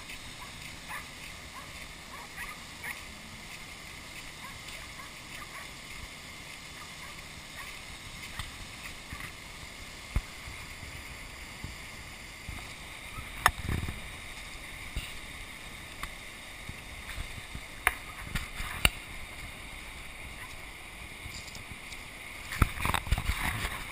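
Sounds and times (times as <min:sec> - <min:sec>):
floodwater rushing over dam: 0:00.0 - 0:23.9.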